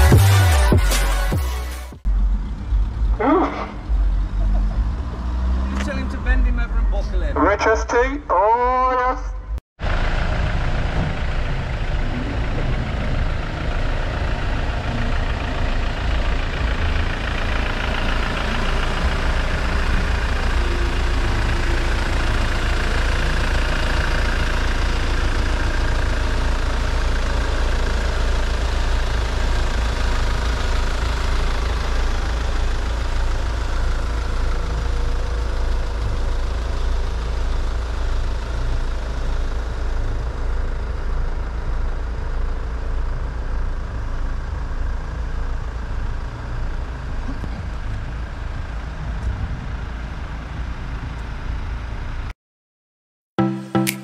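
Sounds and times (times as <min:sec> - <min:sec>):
van engines idling: 0:00.0 - 0:52.3.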